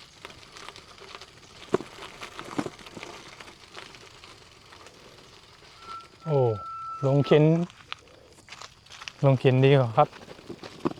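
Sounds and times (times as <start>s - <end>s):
bicycle crunching on gravel: 0.0s - 10.9s.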